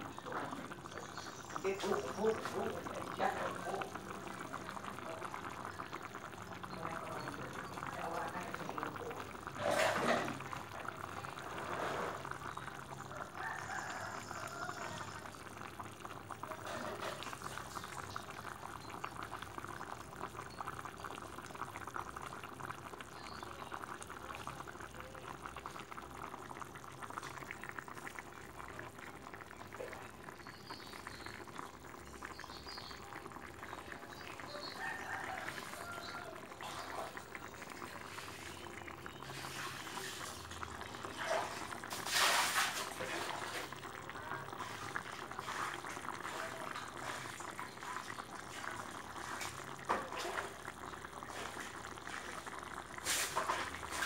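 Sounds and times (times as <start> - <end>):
sauce bubbling and crackling in pan: 0.0 - 54.0.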